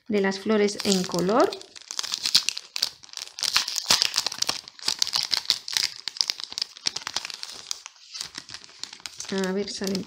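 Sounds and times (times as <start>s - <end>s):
plastic packaging crinkling: 0.7s - 10.0s.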